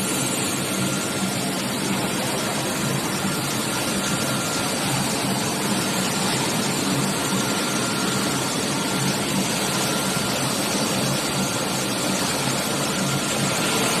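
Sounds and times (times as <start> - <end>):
motor running with hiss and hum: 0.0 - 14.0.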